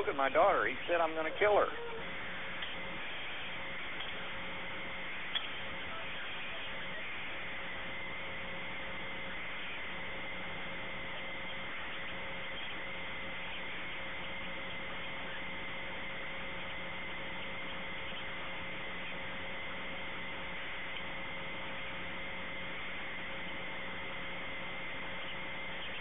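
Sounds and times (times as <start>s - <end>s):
faint steady tones: 0.0s - 26.0s
telephone line hiss and hum: 0.0s - 26.0s.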